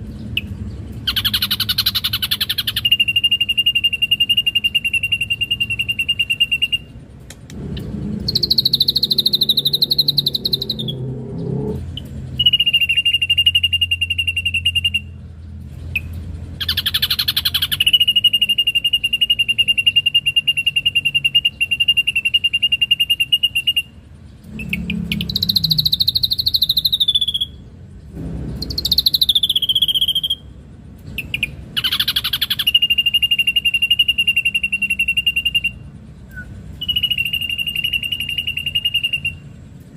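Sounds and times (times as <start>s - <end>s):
bird singing trilled notes: 0.0s - 39.9s.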